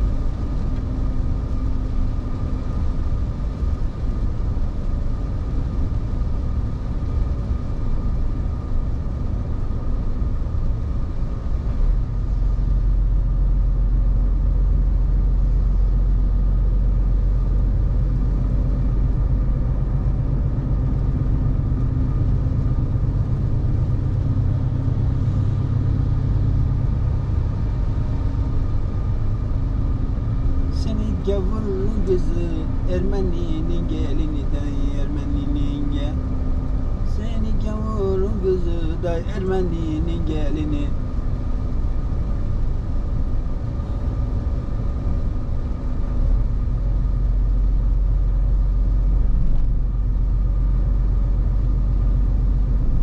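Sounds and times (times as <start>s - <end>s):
truck engine and road noise: 0.0s - 53.0s.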